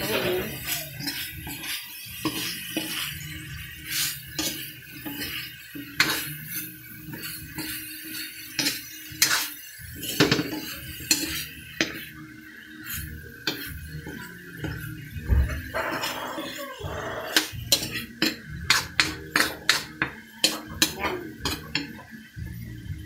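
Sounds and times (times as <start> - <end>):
utensil scraping a pan: 0.0 - 12.1, 12.9 - 22.0.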